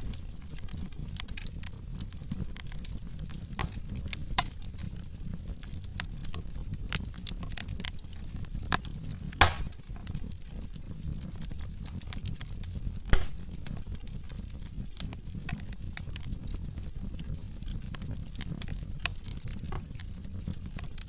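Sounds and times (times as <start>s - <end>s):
log fire crackling and popping: 0.0s - 21.0s
low rumble of flames: 0.0s - 21.0s.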